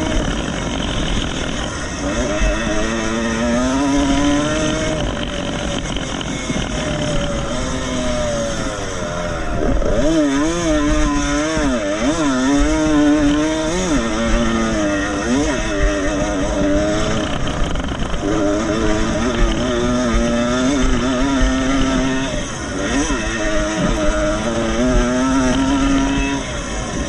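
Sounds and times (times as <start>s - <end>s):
motocross motorcycles racing: 0.0s - 27.0s.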